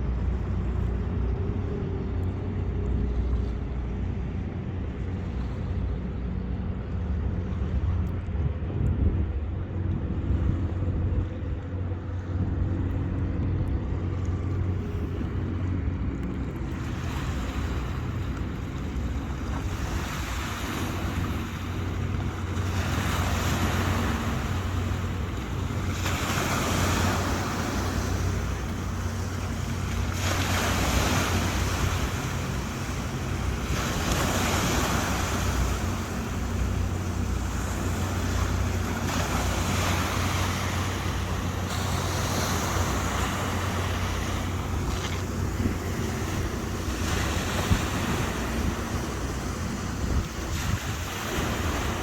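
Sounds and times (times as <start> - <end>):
boat engine drone: 0.0 - 52.0
rushing water: 0.0 - 52.0
wind buffeting microphone: 0.0 - 52.0.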